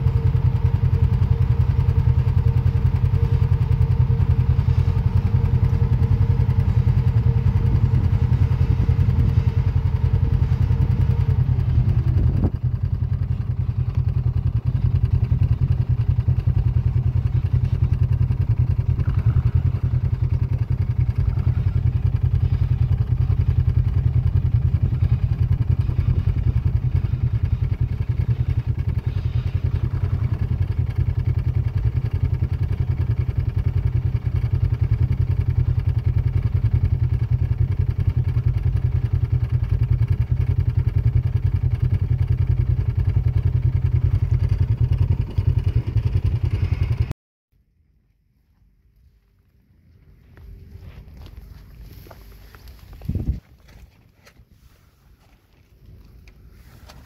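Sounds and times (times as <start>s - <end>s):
distant engine sounds: 0.0s - 47.1s, 48.5s - 57.0s
engine idling: 0.0s - 47.2s, 49.0s - 57.0s.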